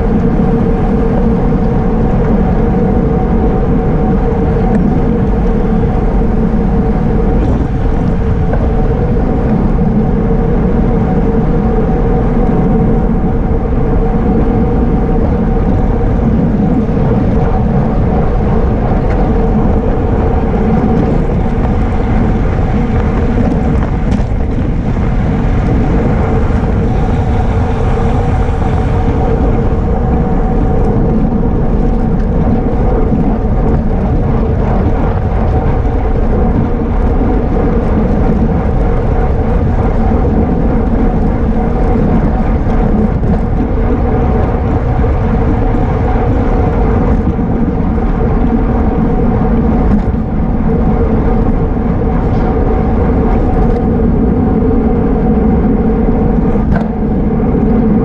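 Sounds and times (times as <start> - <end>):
steady hum: 0.0 - 58.0
wind rushing over microphone: 0.0 - 58.0.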